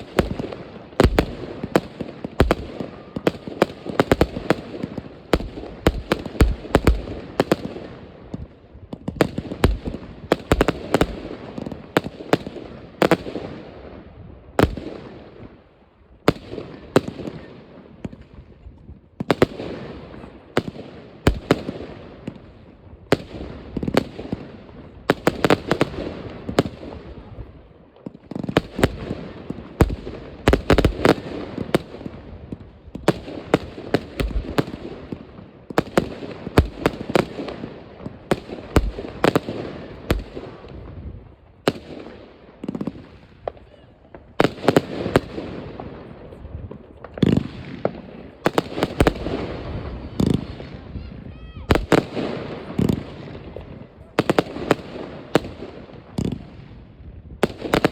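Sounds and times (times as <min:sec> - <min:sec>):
firework bangs and pops: 0:00.0 - 0:57.9
fireworks crackling: 0:00.0 - 0:57.9.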